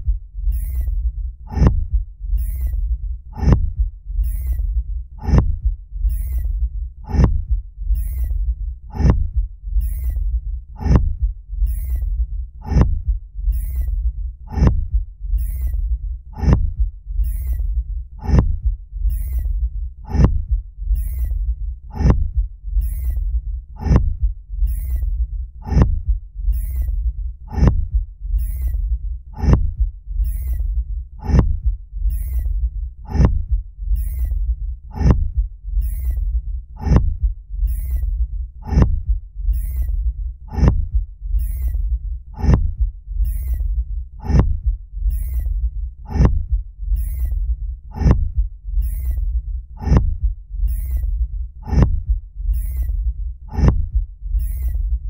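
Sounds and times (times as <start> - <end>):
deep rumble: 0.0 - 55.0.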